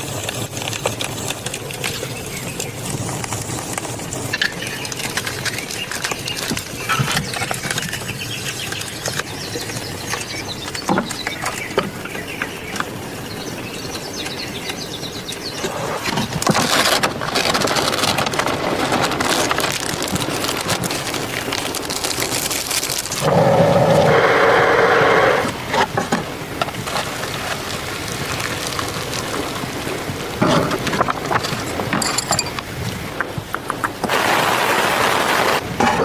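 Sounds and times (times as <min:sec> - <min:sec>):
heavy rain on a tent: 0:00.0 - 0:35.8.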